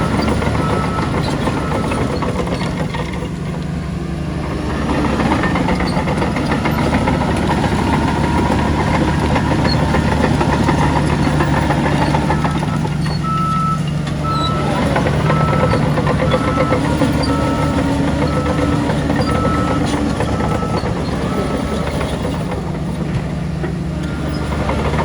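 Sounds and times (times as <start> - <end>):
truck reversing alarm beeps: 0.0 - 3.3, 4.8 - 23.0
heavy diesel engine running: 0.0 - 25.0.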